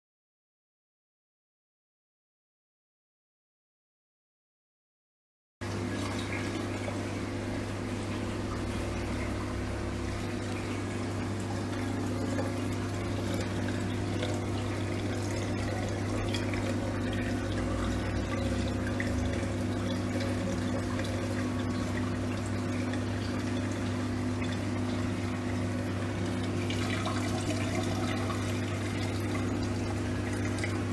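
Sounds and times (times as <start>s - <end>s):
low pump hum: 5.6s - 30.9s
water pouring and trickling: 5.6s - 30.9s.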